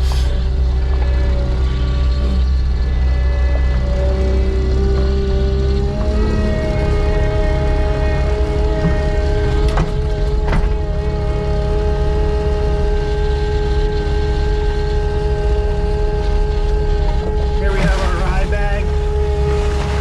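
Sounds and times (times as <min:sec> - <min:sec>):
skid loader engine running: 0:00.0 - 0:20.0.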